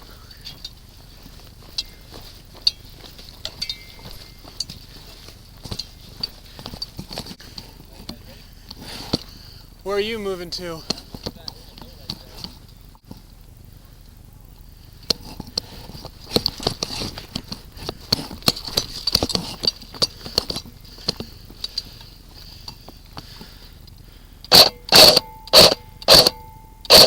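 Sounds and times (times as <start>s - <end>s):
light clicking and rustling: 0.0s - 9.7s, 10.9s - 13.4s, 14.9s - 24.5s.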